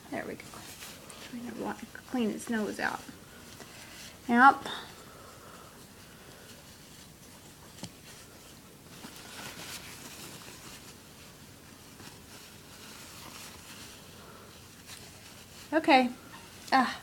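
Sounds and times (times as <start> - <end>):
faint rustling: 0.0 - 17.0.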